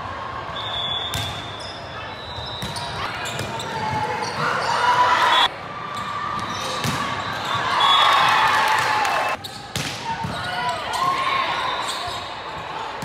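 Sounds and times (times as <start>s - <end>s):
players calling and shouting: 0.0s - 13.0s.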